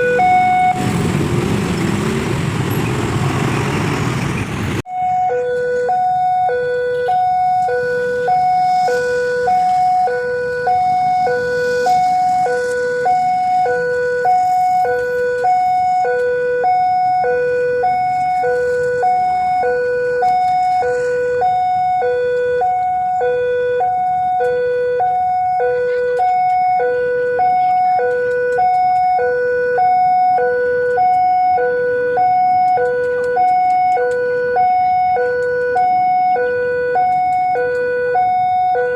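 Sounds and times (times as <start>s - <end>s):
level crossing two-tone alarm: 0.0s - 1.0s, 4.9s - 38.9s
road traffic noise: 0.0s - 38.9s.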